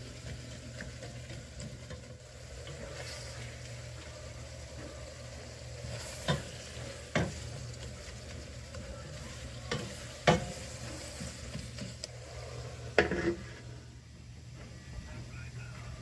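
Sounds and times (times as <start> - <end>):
meat frying in a pot: 0.0 - 14.4
steady low hum: 0.0 - 16.0.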